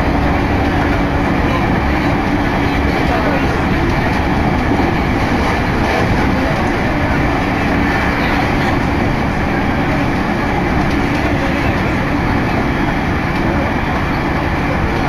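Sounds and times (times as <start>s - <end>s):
electric train running at speed: 0.0s - 15.0s.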